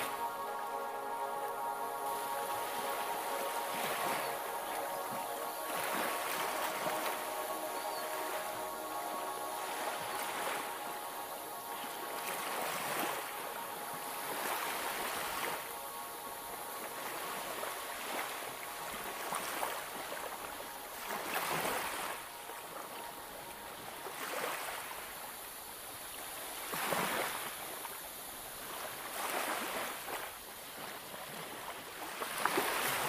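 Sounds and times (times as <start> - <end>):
sea waves washing onto beach: 0.0 - 33.0.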